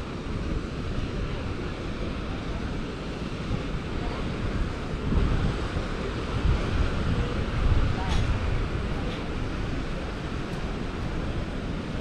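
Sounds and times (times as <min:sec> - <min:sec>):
steady outdoor rush: 0:00.0 - 0:12.0
wind buffeting microphone: 0:00.0 - 0:12.0.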